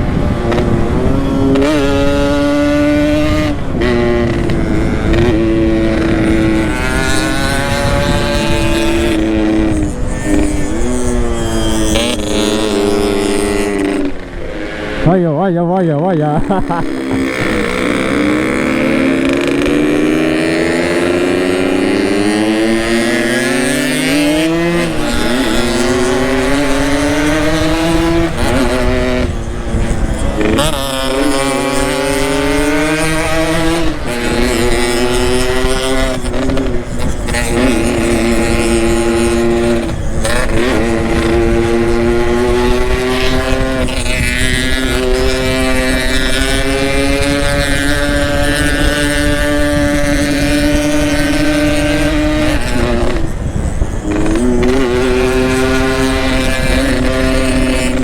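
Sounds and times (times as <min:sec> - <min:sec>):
two-stroke motorcycle engine accelerating: 0:00.0 - 0:58.0.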